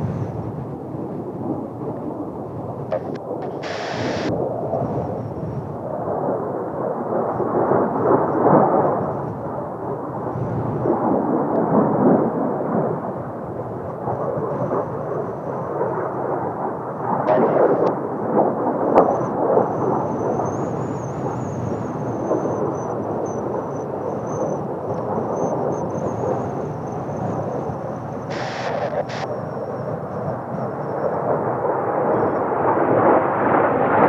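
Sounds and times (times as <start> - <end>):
jet engines rumbling overhead: 0.0 - 34.0
wind buffeting microphone: 0.0 - 34.0.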